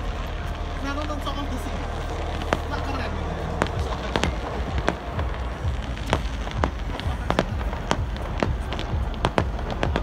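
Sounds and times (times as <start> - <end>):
fireworks bangs: 0.0 - 10.0
steady low rumble: 0.0 - 10.0.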